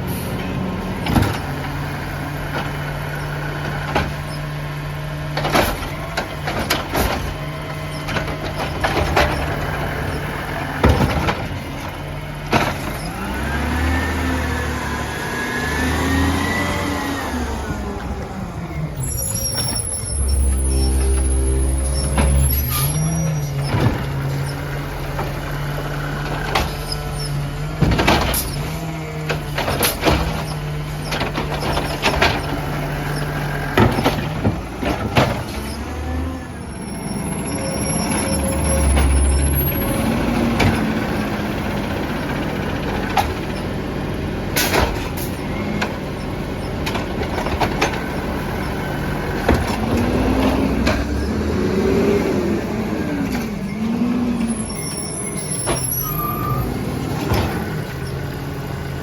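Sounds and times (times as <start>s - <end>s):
garbage truck engine running: 0.0s - 59.0s.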